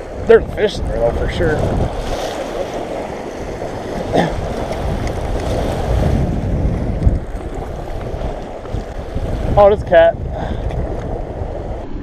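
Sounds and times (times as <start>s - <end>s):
waves washing against shore: 0.0s - 12.0s
wind buffeting microphone: 0.0s - 12.0s.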